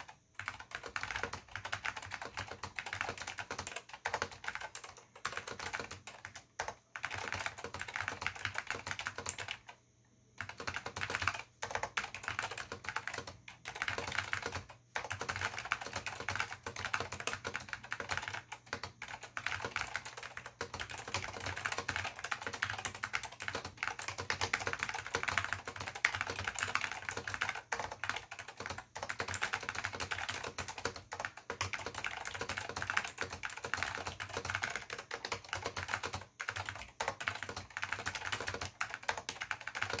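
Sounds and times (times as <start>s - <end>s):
keyboard typing: 0.0s - 40.0s.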